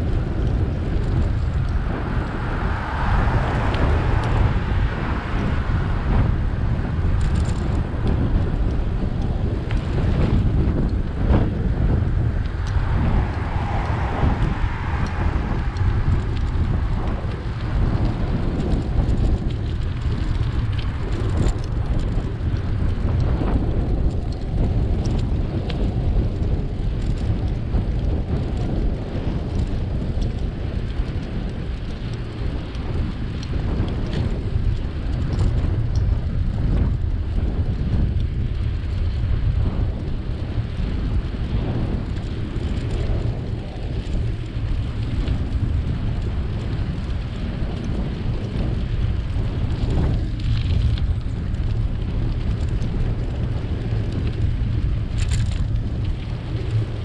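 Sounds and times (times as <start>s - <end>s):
road noise: 0.0s - 57.0s
wind rush on microphone: 0.0s - 57.0s.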